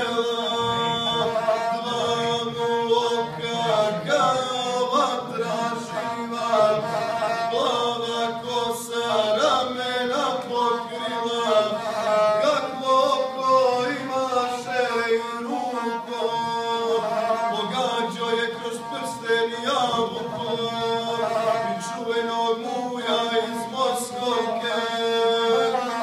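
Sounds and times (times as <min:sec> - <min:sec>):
bowed single-string fiddle: 0:00.0 - 0:26.0
man singing in chanting style: 0:00.0 - 0:26.0.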